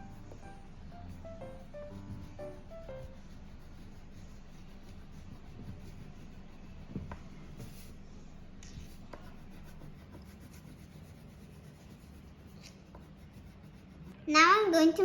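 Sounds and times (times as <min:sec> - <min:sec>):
low steady hum: 0:00.0 - 0:14.4
colouring scratching on paper: 0:00.0 - 0:14.8.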